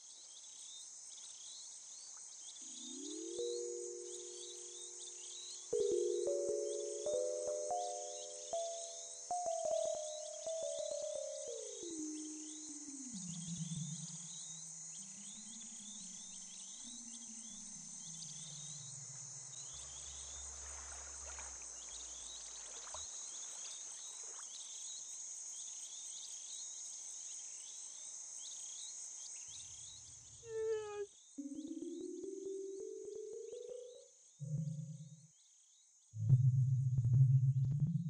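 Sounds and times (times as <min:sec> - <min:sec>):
insects buzzing and chirping: 0:00.0 - 0:36.2.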